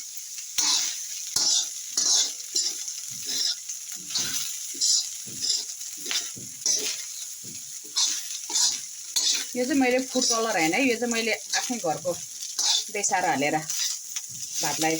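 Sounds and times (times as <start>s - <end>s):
food sizzling in a pan: 0.0s - 14.9s
spatula scraping and tossing rice: 0.3s - 14.9s.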